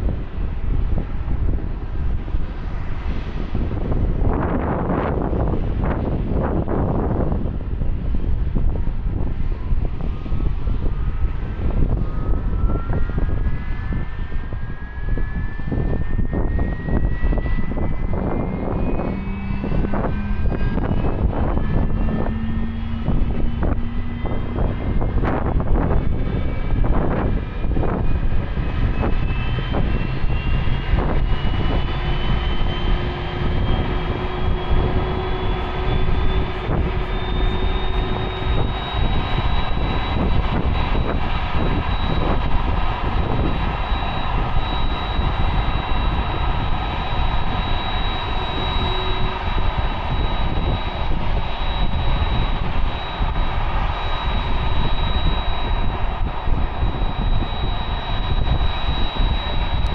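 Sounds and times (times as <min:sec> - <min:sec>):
jet engine rumble: 0:00.0 - 0:59.9
jet engines whine rising: 0:00.0 - 0:59.9.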